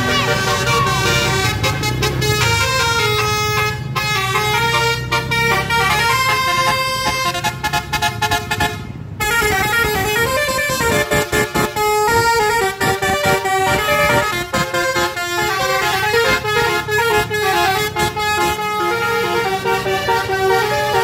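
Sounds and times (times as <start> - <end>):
bus musical horn tune: 0.0 - 21.0.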